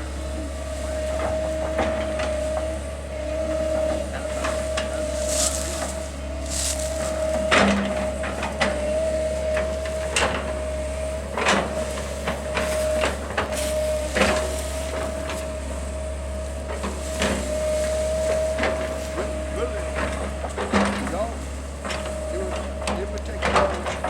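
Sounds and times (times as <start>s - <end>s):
heavy machine engine running: 0.0s - 24.0s.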